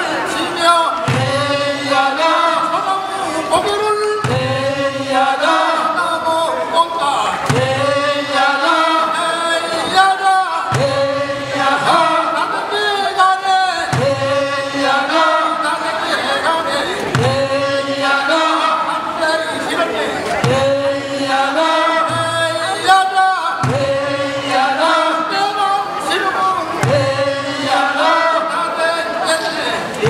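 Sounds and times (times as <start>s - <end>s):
men chanting in unison: 0.0s - 30.0s.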